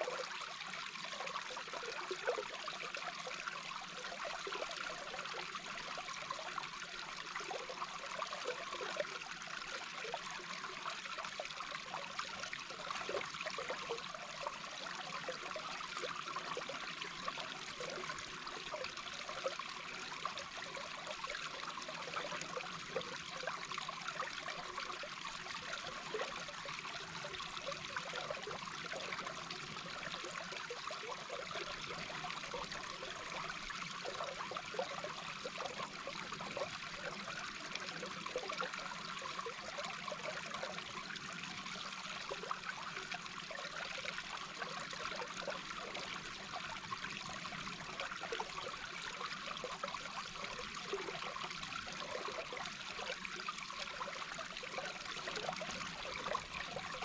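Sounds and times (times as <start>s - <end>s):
flowing water underwater: 0.0s - 57.0s.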